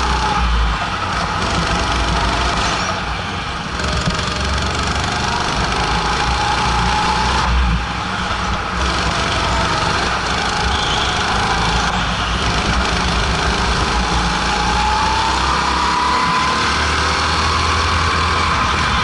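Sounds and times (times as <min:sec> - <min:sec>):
go-kart engine under throttle: 0:00.0 - 0:19.0.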